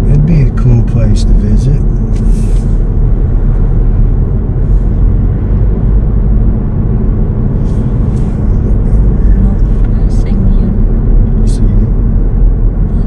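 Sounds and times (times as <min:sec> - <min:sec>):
car driving on paved road: 0:00.0 - 0:13.0.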